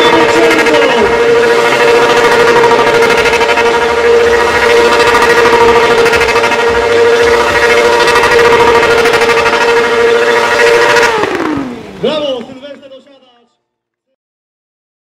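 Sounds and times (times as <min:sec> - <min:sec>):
motorcycle engine revving high: 0:00.0 - 0:13.1.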